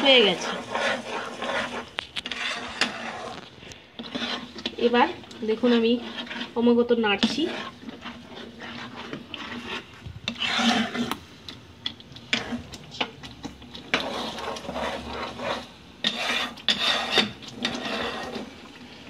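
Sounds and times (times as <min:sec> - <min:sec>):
spatula scraping gravy in pan: 0:00.0 - 0:19.0.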